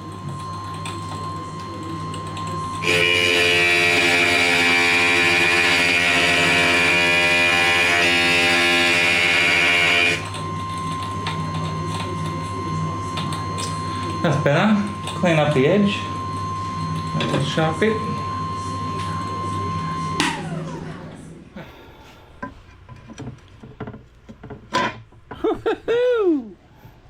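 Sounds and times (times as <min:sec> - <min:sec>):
grinder motor humming: 0:00.0 - 0:21.8.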